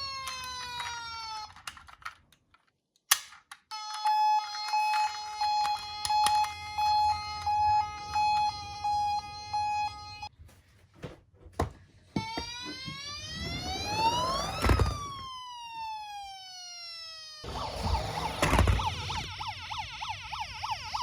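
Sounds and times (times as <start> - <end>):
two-tone hi-lo siren: 0.0 - 1.6, 3.7 - 10.3, 12.2 - 21.0
toy siren falling wail: 0.0 - 2.1, 3.7 - 10.3, 12.2 - 21.0.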